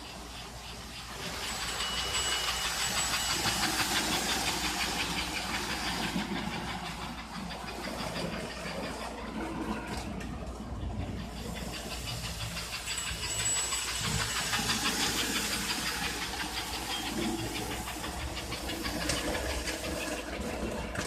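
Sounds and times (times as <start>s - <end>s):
hissing chuff: 0.0s - 10.2s, 10.9s - 21.0s
toy train motor hum: 0.0s - 21.0s
toy train wheel noise: 0.0s - 21.0s.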